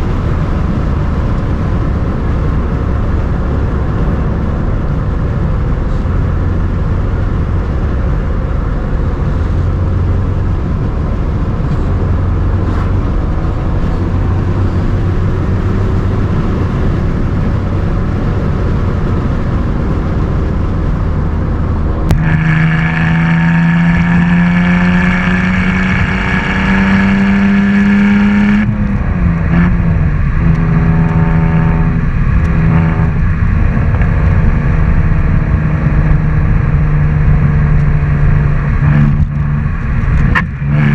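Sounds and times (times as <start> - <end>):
car engine droning: 0.0 - 40.9
road noise: 0.0 - 40.9.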